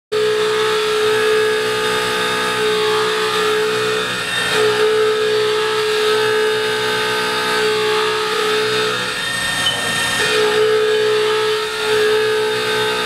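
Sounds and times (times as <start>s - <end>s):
milling machine cutting steel: 0.1s - 13.0s.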